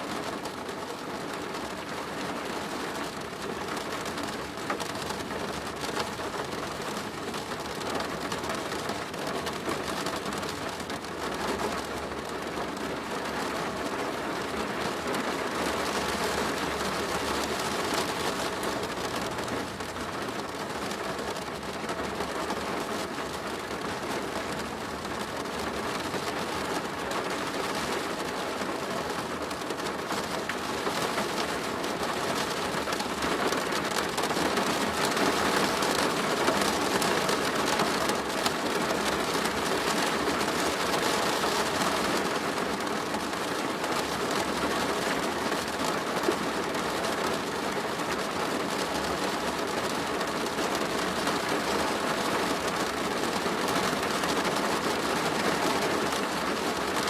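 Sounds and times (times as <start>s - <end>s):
heavy rain on plastic roof: 0.0s - 57.0s.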